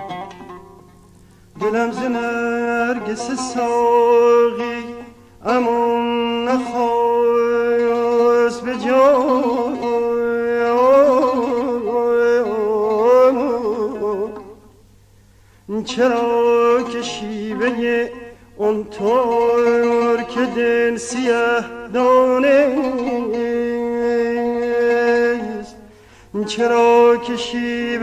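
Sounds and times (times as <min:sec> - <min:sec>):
man singing classical vocal: 0:01.5 - 0:14.7, 0:15.7 - 0:28.0.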